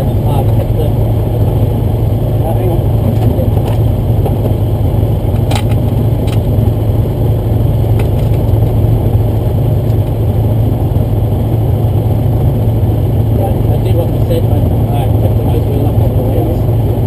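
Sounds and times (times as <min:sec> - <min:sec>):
propeller engine low drone: 0:00.0 - 0:17.0.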